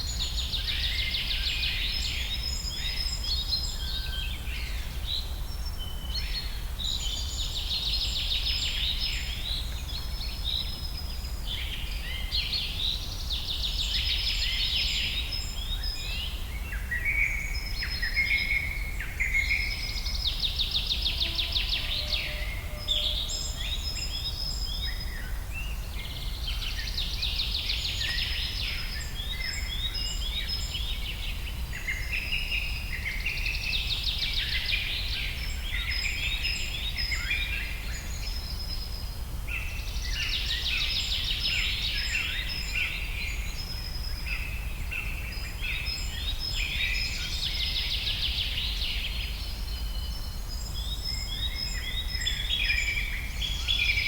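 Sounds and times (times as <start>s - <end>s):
forest birds singing: 0.0s - 54.0s.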